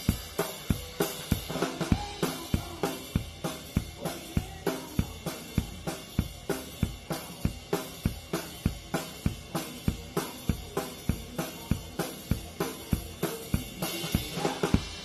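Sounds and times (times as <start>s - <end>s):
drum kit playing a steady beat: 0.0s - 15.0s.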